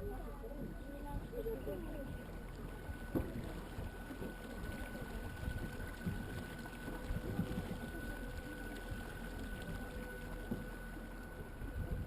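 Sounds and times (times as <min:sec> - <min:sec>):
water noise from hull: 0:00.0 - 0:12.0.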